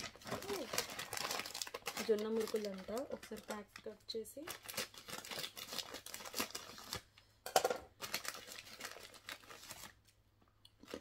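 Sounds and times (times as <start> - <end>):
plastic packet crinkling: 0.0 - 7.1, 7.9 - 10.0, 10.8 - 11.0.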